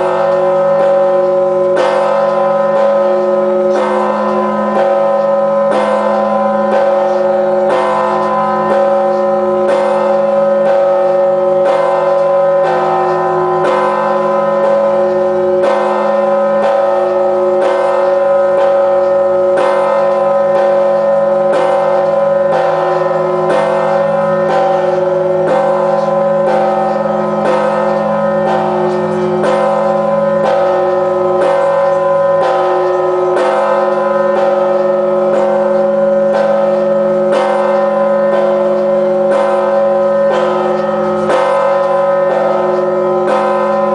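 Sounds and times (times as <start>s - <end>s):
church bell ringing: 0.0s - 43.9s.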